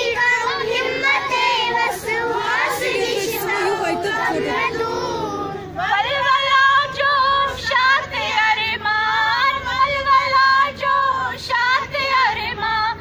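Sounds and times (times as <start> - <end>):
girls singing together: 0.0 - 13.0.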